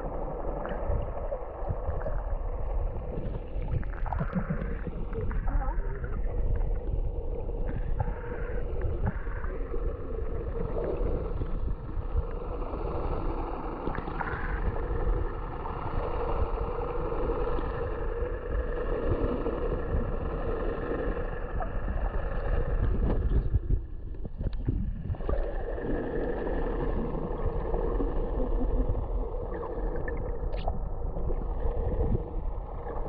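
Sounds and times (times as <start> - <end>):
steady hum: 0.0 - 33.0
underwater moving water rumble: 0.0 - 33.0.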